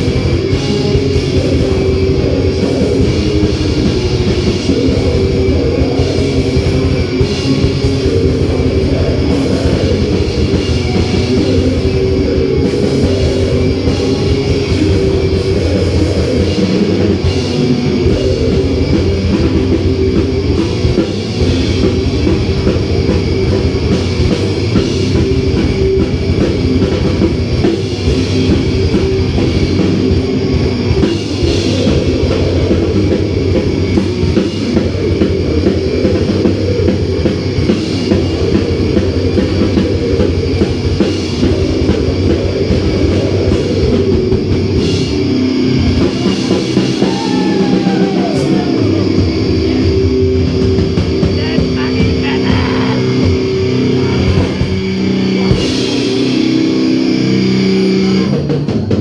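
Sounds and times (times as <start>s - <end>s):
drum kit: 0.0s - 59.0s
electric guitars: 0.0s - 59.0s.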